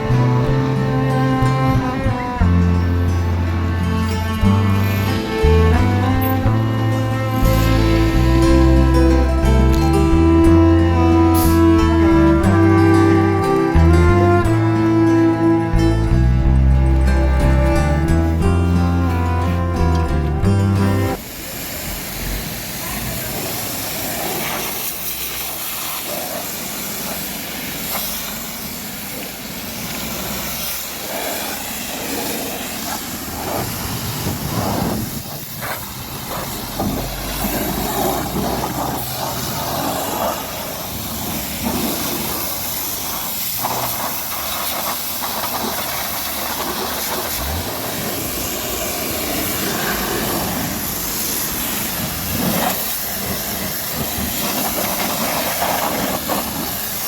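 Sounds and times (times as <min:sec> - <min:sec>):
pressure washer spraying water: 0:00.0 - 0:15.8, 0:21.0 - 0:57.0.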